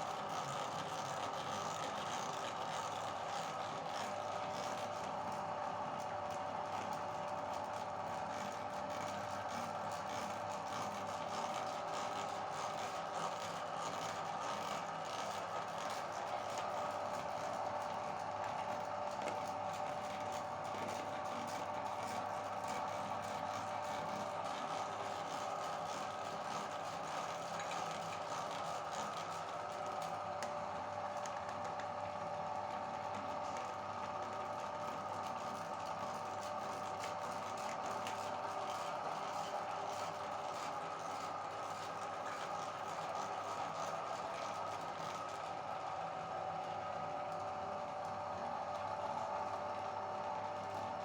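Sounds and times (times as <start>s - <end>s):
meat grinder motor hum: 0.0s - 51.0s.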